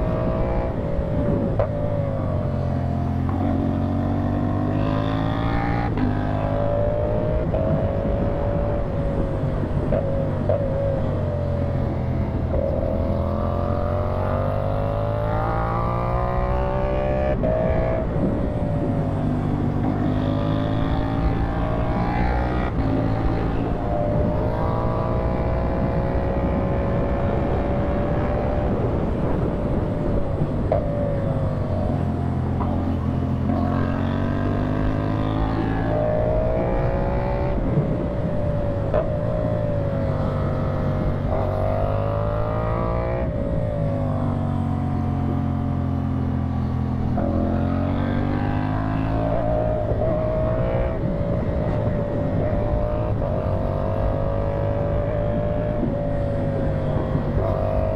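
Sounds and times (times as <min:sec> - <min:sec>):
motorcycle engine shifting gears: 0:00.0 - 0:57.9.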